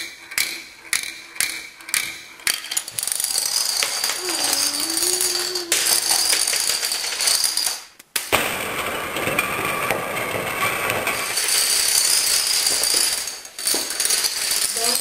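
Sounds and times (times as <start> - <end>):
plastic dominoes toppling: 2.5 - 15.0.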